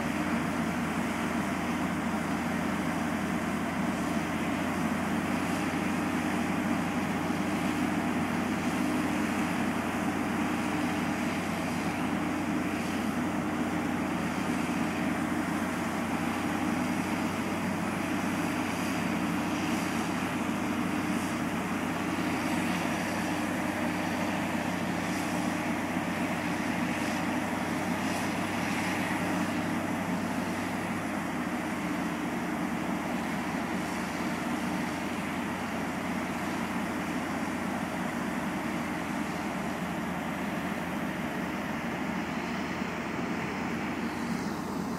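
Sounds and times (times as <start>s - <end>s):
heavy diesel engines running: 0.0s - 44.9s.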